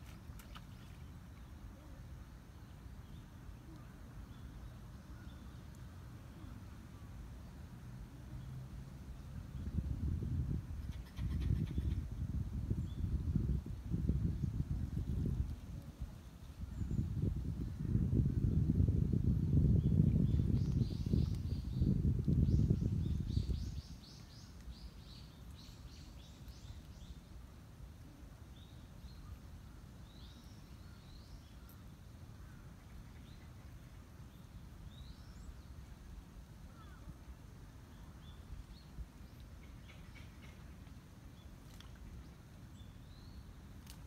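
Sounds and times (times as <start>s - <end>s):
low steady outdoor hum: 0.0s - 44.0s.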